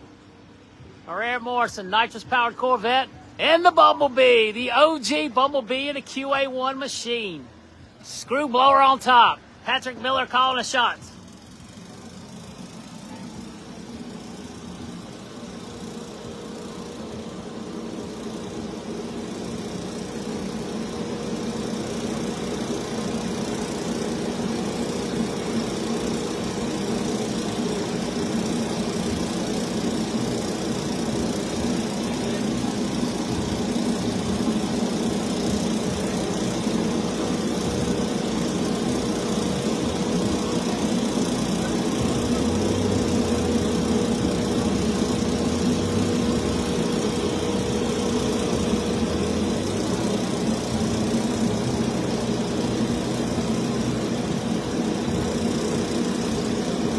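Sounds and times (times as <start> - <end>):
racing car engines idling: 0.0 - 56.9.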